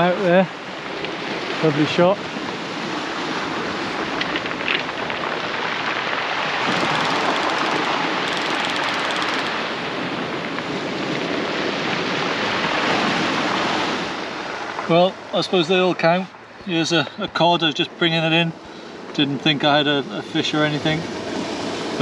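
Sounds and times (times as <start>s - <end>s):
sea swell washing along shore: 0.0s - 15.9s, 19.6s - 22.0s.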